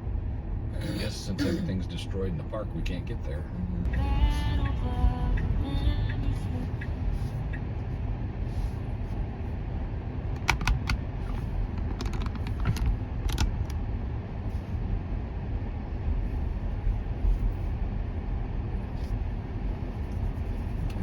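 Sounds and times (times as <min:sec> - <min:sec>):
road and tyre rumble: 0:00.0 - 0:21.0.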